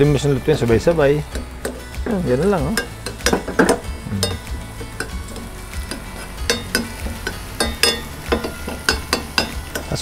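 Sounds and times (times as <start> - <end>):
garlic sizzling in oil: 0.0 - 10.0
metal spoon scraping pan: 1.2 - 10.0.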